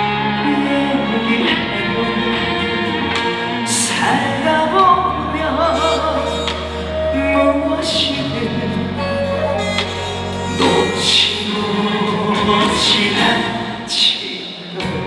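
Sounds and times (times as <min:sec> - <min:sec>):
band playing trot music: 0:00.0 - 0:13.9
wavering melodic lead line: 0:00.0 - 0:13.9.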